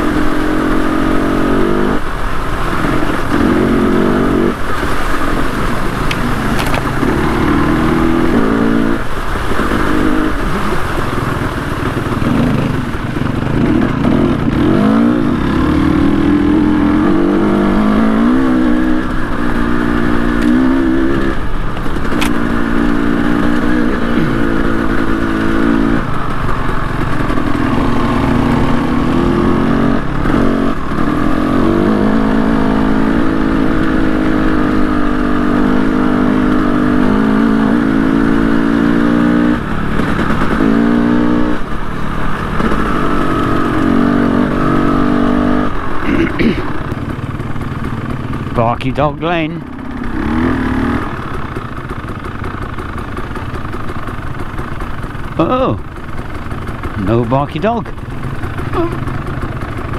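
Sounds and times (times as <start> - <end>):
motorcycle engine under load: 0.0 - 59.9.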